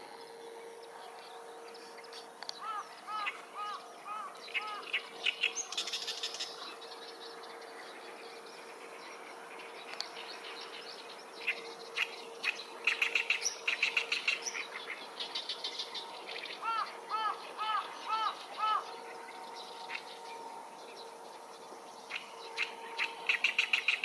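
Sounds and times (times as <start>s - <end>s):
faint steady hum: 0.0s - 24.0s
small birds chattering and singing: 0.0s - 24.0s.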